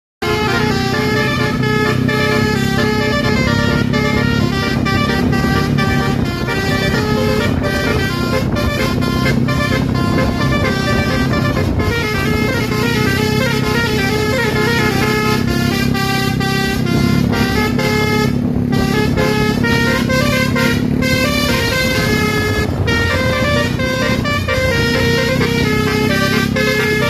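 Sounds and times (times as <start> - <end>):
musical air horns playing tune: 0.2 - 27.0
steady low drone: 0.2 - 27.0.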